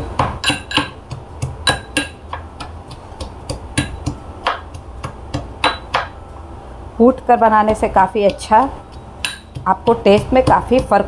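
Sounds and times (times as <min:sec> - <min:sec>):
pestle pounding in a mortar: 0:00.0 - 0:06.2, 0:07.6 - 0:11.0.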